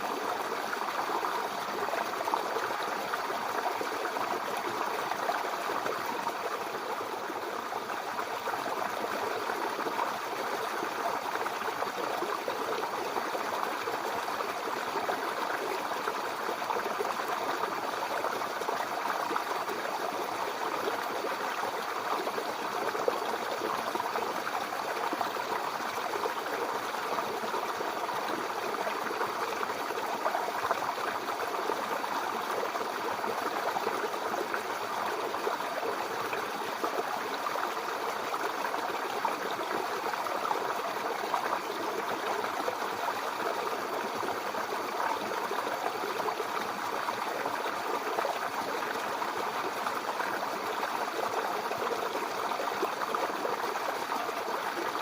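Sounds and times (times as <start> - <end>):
brook water gurgling: 0.0 - 55.0.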